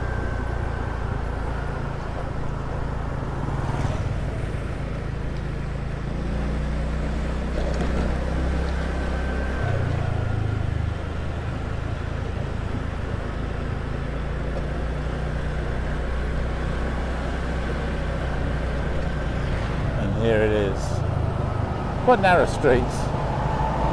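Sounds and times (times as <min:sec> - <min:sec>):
road and air noise: 0:00.0 - 0:23.9.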